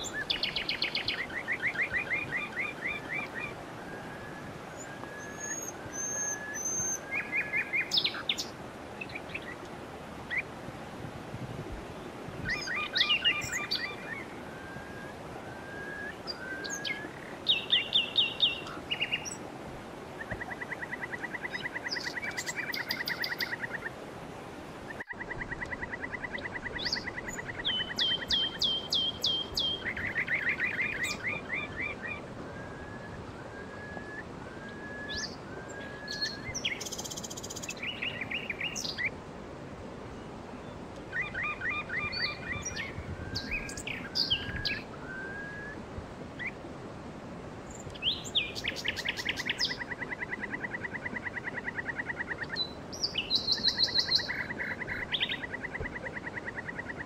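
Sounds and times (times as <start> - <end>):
songbirds singing: 0.0 - 57.0
steady background hiss: 0.0 - 57.0.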